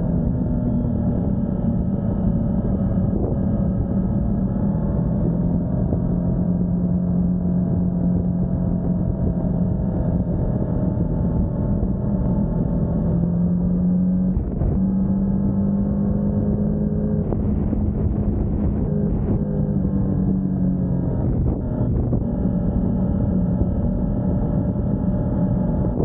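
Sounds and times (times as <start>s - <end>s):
motorcycle engine running: 0.0s - 26.0s
riding rumble: 0.0s - 26.0s.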